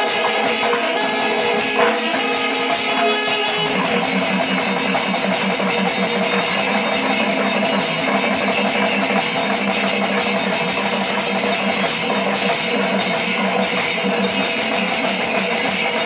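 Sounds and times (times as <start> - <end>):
clashing cymbals: 0.0 - 16.0
rapid drum strokes: 0.0 - 16.0.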